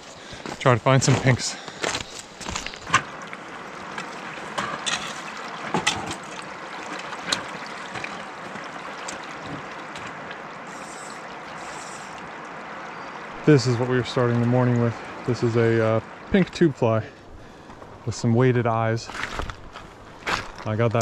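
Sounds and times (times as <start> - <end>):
river water rushing over gravel: 0.0 - 21.0.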